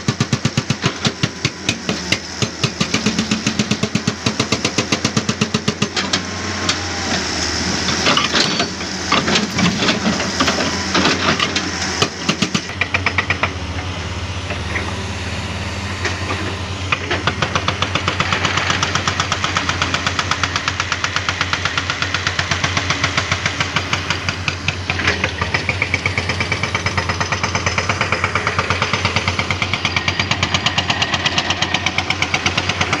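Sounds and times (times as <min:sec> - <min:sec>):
jackhammer pounding rock: 0:00.0 - 0:13.7, 0:16.2 - 0:33.0
engine running: 0:00.0 - 0:33.0.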